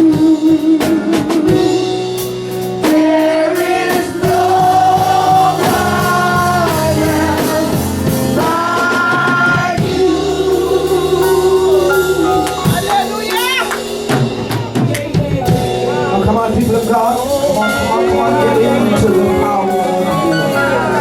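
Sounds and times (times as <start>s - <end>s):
band with drums: 0.0s - 21.0s
voices singing held notes: 2.6s - 21.0s.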